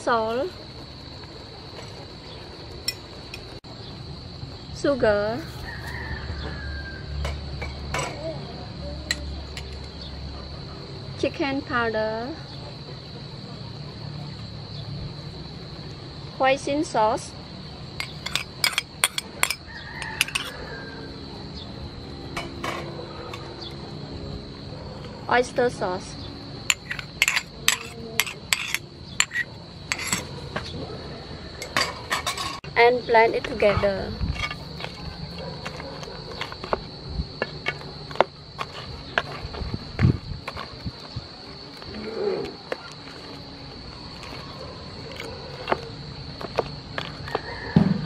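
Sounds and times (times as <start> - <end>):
high insect drone: 0.0 - 48.0.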